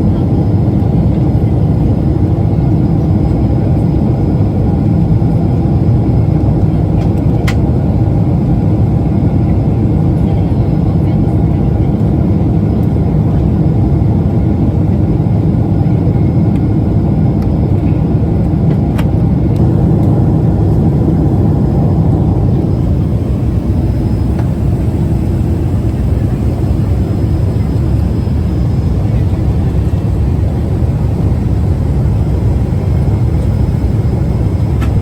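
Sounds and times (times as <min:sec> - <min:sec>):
jet engines and airflow rushing: 0:00.0 - 0:35.0.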